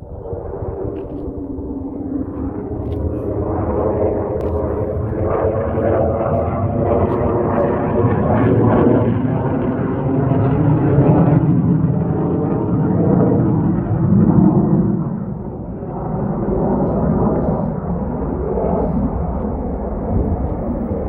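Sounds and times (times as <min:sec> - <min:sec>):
fighter jet engine roar: 0:00.0 - 0:21.0.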